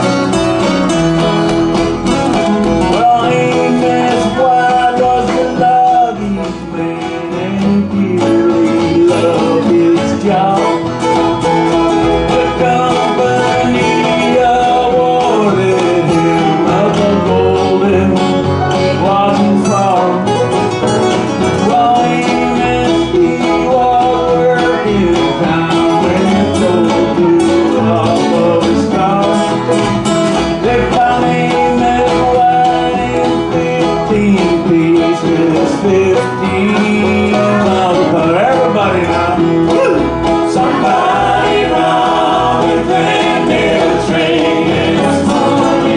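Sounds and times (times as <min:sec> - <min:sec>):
picked banjo: 0:00.0 - 0:45.9
strummed acoustic guitars: 0:00.0 - 0:45.9
person singing: 0:02.8 - 0:20.5, 0:21.3 - 0:29.8, 0:30.4 - 0:45.9.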